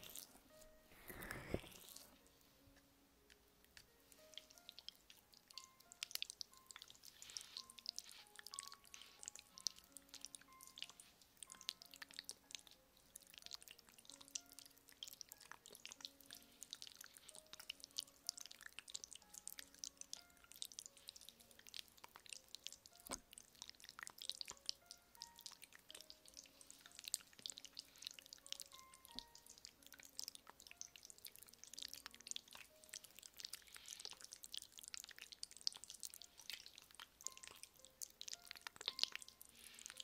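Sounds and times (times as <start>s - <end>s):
soft background music: 0.0s - 40.0s.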